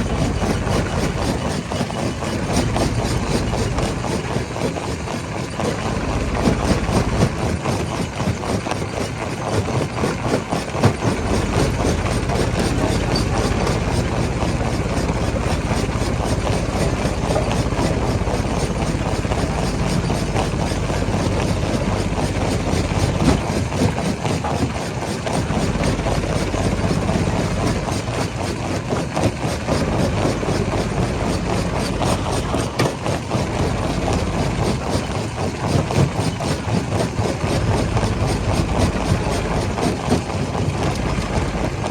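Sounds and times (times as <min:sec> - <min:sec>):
rock-crushing machinery running: 0:00.0 - 0:41.9.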